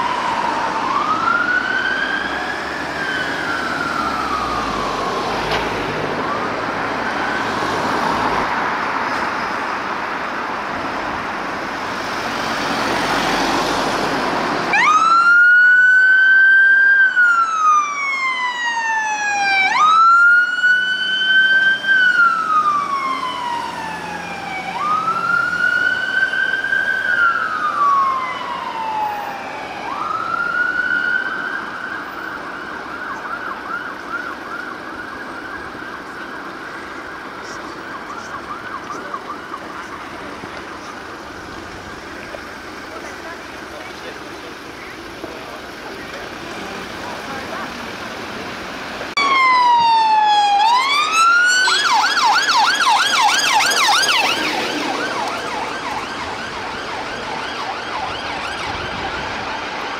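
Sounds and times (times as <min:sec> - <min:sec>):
wailing siren: 0:00.0 - 0:09.1, 0:11.1 - 0:48.5, 0:49.1 - 0:59.9
passing vehicles rushing: 0:00.0 - 0:59.9.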